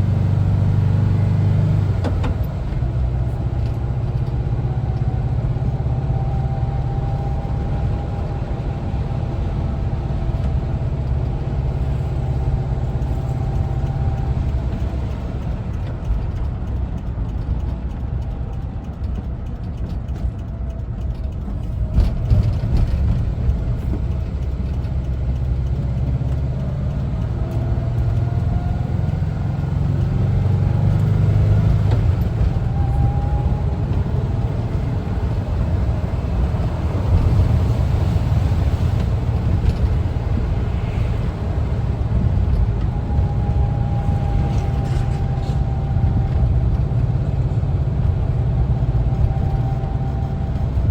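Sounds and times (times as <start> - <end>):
road rumble: 0.0 - 50.9
van engine running: 0.0 - 50.9.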